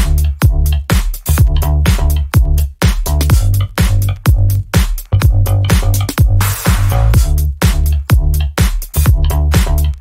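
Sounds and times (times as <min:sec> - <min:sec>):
electronic dance music: 0:00.0 - 0:10.0
kick drum beat: 0:00.0 - 0:10.0
pulsing bass line: 0:00.0 - 0:10.0.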